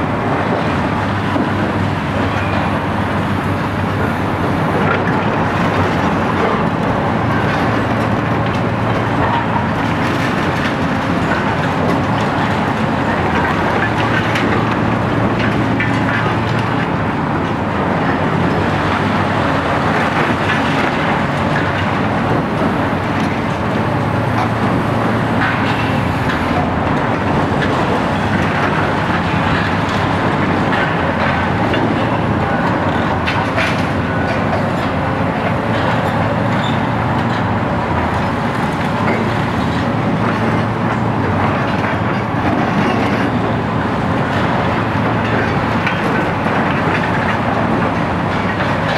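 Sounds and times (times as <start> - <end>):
diesel excavator engines running: 0.0 - 48.9.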